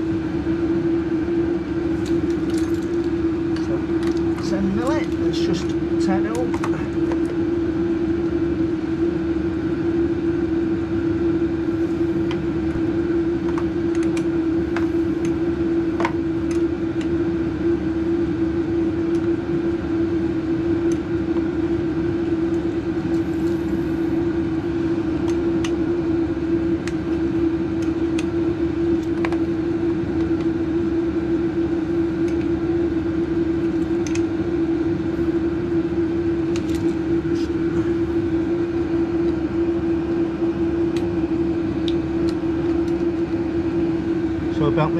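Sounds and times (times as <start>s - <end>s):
mechanical drone with low hum: 0.0s - 44.9s.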